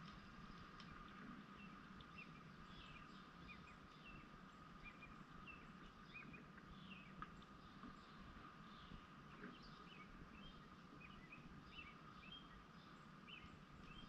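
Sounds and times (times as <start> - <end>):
faint steady hum: 0.0 - 14.0
small birds chirping: 0.8 - 14.0.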